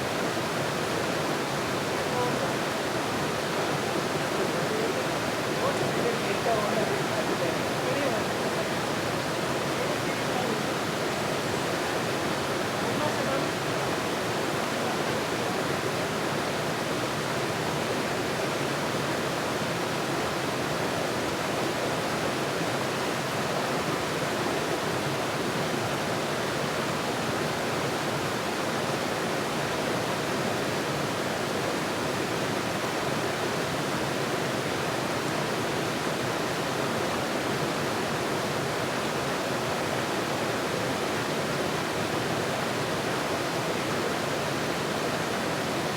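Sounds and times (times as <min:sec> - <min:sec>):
rushing water roar: 0:00.0 - 0:45.9.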